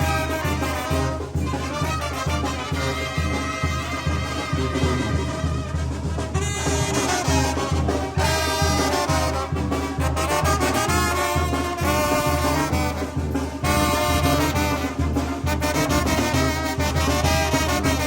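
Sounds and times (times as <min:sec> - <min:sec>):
trumpets and trombones melody: 0:00.0 - 0:18.0.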